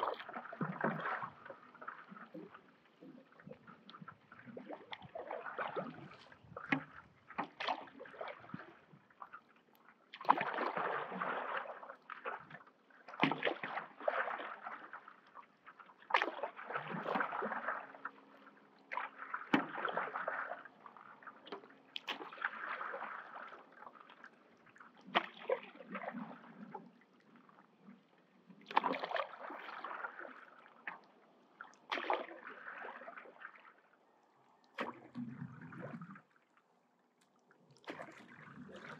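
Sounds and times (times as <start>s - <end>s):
paddle sloshing through water: 0.0s - 38.9s
water splashes and drips: 0.0s - 38.9s.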